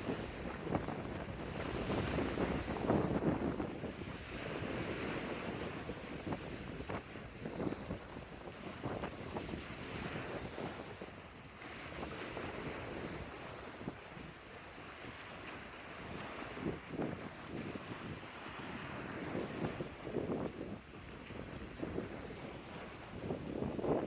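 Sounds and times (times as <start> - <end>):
waves washing onto shore: 0.0 - 24.0
wind buffeting microphone: 0.0 - 24.0.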